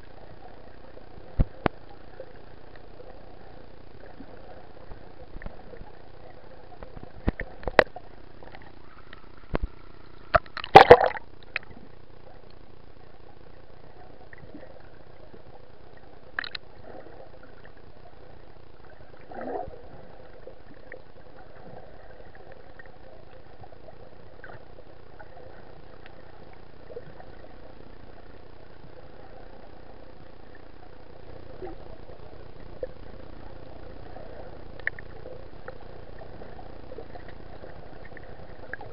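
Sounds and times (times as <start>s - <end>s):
muffled underwater water hiss: 0.0s - 38.9s.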